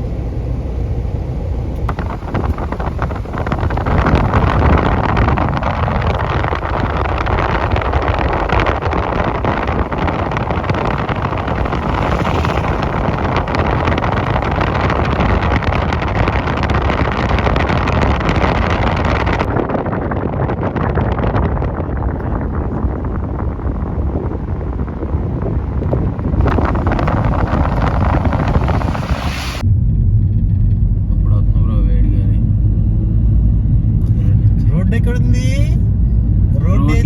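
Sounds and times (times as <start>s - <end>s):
vehicle road noise: 0.0s - 37.0s
wind buffeting microphone: 0.0s - 37.0s.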